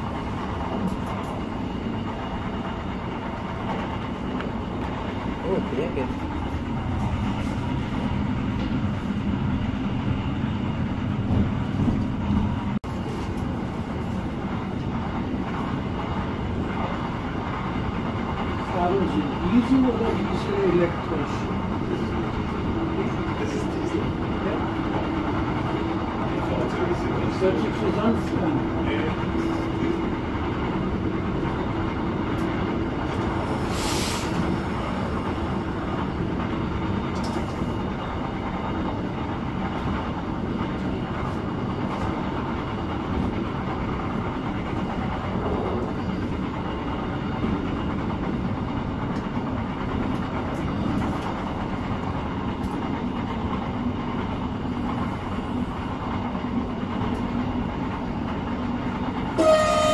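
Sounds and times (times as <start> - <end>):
train rolling rumble from inside: 0.0 - 59.9.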